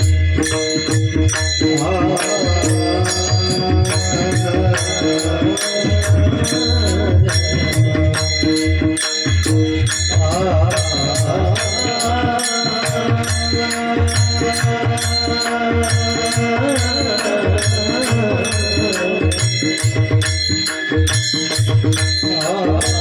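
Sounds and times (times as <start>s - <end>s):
hand drum: 0.0s - 23.0s
person singing devotional song: 0.0s - 23.0s
small hand cymbals: 0.0s - 23.0s.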